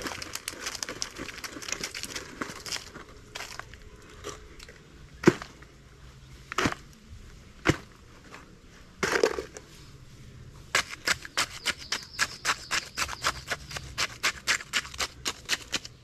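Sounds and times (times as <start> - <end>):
gravelly soil crunching: 0.0 - 16.0.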